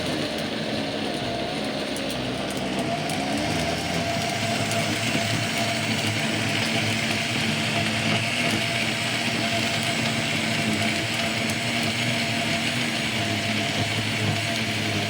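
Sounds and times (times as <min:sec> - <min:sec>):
electric blender running: 0:00.0 - 0:15.0.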